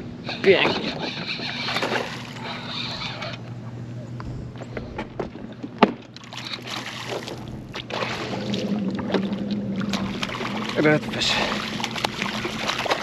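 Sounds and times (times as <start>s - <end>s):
low steady hum: 0.0s - 13.0s
water sloshing around boat: 0.2s - 13.0s.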